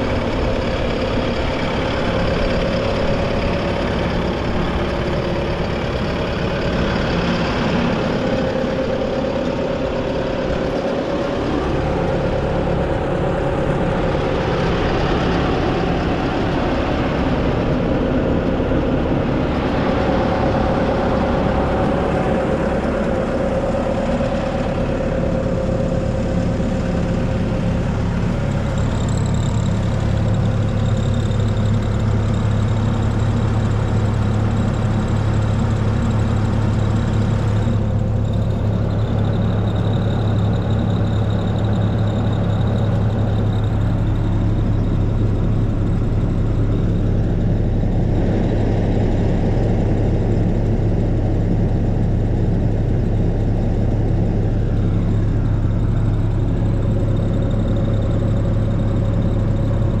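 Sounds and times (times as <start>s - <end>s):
diesel engine idling: 0.0s - 60.0s.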